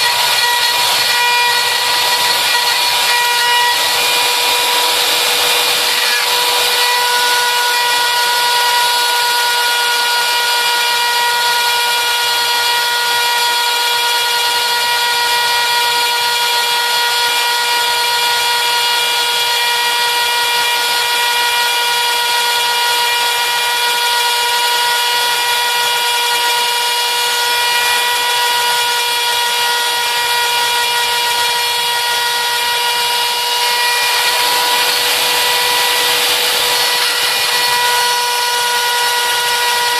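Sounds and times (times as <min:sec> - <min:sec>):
spiral saw high whine: 0:00.0 - 0:39.9.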